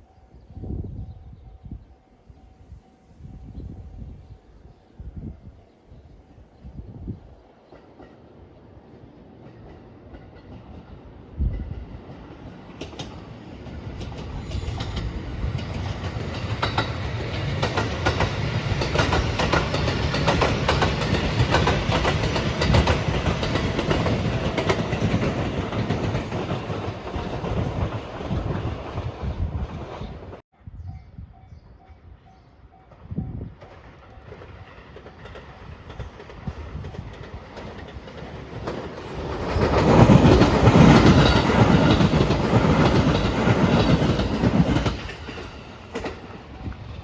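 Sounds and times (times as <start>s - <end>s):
electric train passing: 6.3s - 30.4s, 31.4s - 47.0s.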